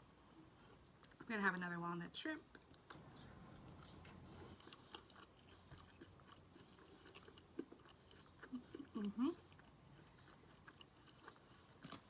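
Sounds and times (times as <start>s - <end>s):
close-up chewing with crunches: 0.3s - 1.3s, 2.5s - 12.0s.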